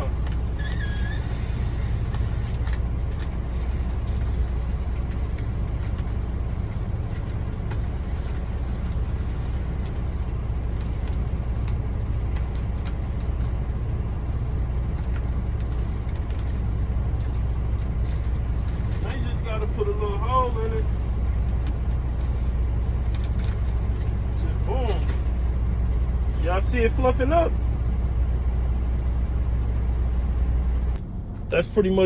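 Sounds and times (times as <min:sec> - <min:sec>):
truck diesel engine idling: 0:00.0 - 0:32.0.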